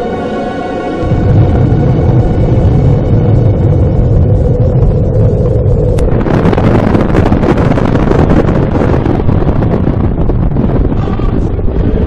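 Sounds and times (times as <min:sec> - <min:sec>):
explosion roar: 0:00.0 - 0:12.0.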